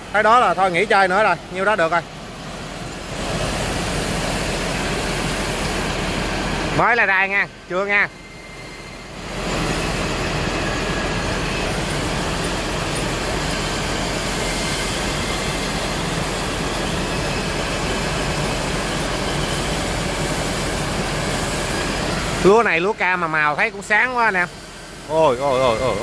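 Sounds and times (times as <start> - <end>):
conveyor drive hum: 0.0 - 26.0.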